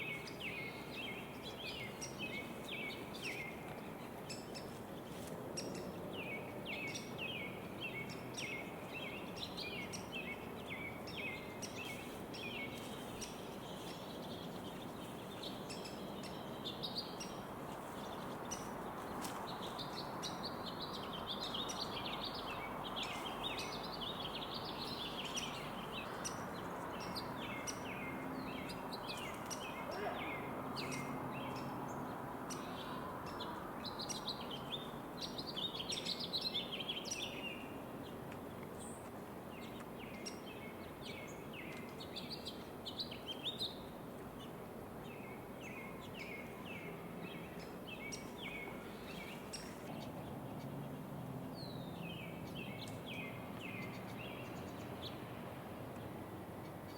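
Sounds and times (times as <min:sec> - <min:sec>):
outdoor background hiss: 0:00.0 - 0:56.9
songbirds chirping: 0:00.0 - 0:56.9.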